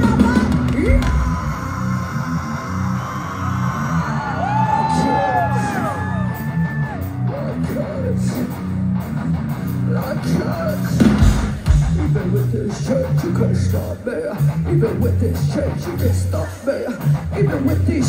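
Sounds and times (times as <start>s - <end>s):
heavy metal band playing: 0.0s - 18.0s.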